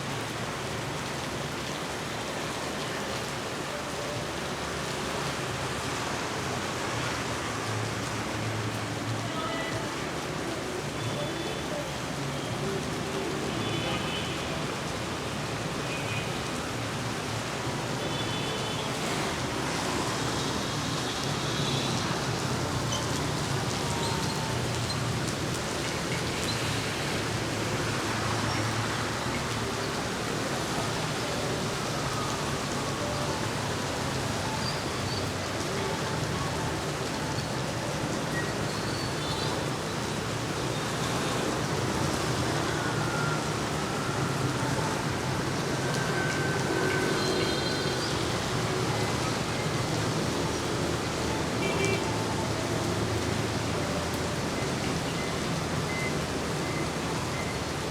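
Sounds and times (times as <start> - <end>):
heavy rain on street: 0.0 - 57.9.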